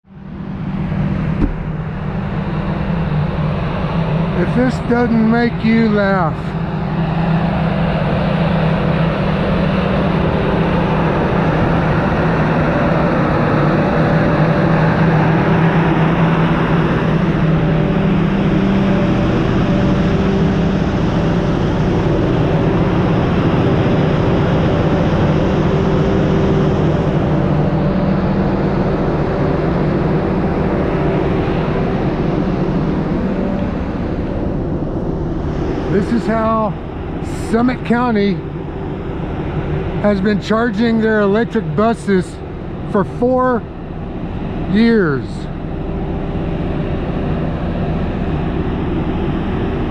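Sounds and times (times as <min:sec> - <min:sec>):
generator engine running: 0:00.0 - 0:49.9.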